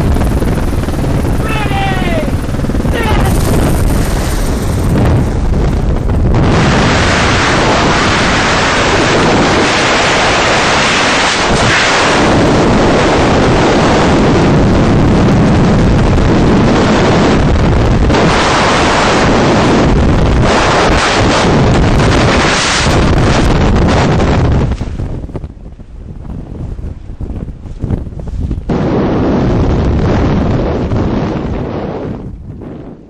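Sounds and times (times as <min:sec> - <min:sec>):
freefall wind rushing: 0:00.0 - 0:33.0.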